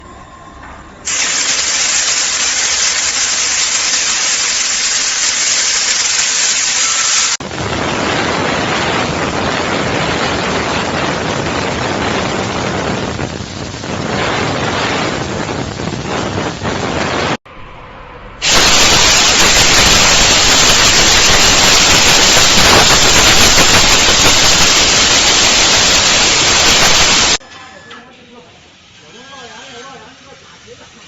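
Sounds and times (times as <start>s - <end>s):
steam jet hissing: 1.0s - 17.4s, 18.4s - 27.4s
lower spray noise: 1.1s - 27.4s.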